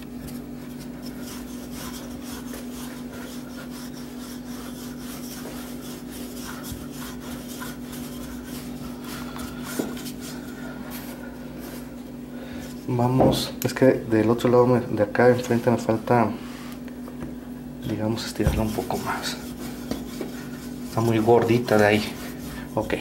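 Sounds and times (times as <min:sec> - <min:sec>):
rolling pin rolling dough: 0:00.0 - 0:16.3, 0:17.8 - 0:23.0
steady low hum: 0:00.0 - 0:23.0.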